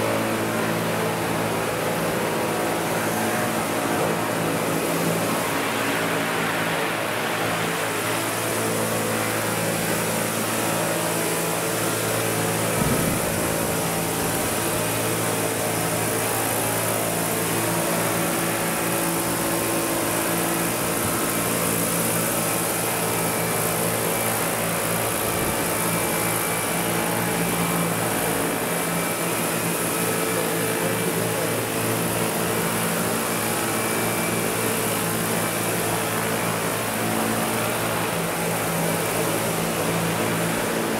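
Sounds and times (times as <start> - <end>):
model helicopter rotors whirring: 0.0 - 40.9.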